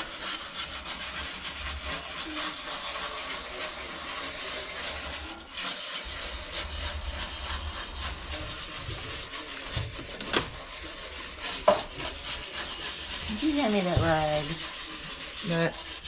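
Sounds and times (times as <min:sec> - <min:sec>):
whisk scraping a skillet: 0:00.0 - 0:16.0.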